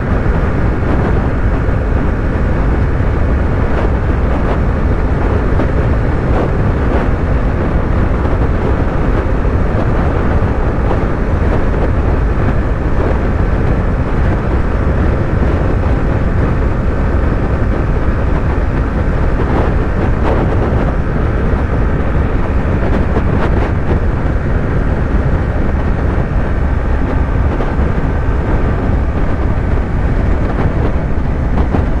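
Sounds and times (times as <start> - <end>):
motorcycle engine cruising: 0.0 - 32.0
wind rush on microphone: 0.0 - 32.0.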